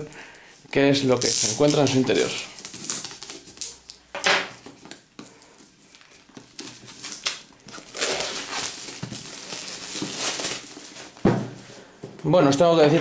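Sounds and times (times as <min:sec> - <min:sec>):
plastic wrap crinkling: 0:00.0 - 0:11.9.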